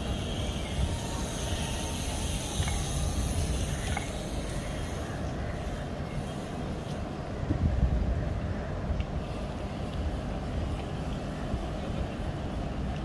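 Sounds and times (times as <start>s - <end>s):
city background rumble and hiss: 0.0s - 13.0s.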